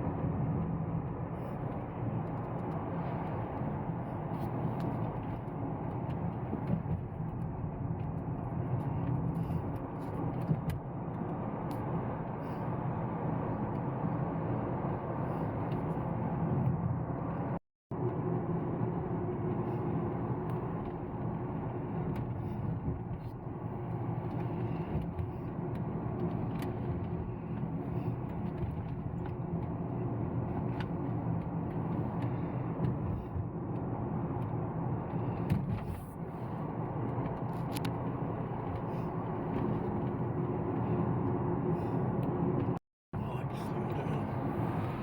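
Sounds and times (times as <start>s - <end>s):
car engine hum: 0.0s - 45.0s.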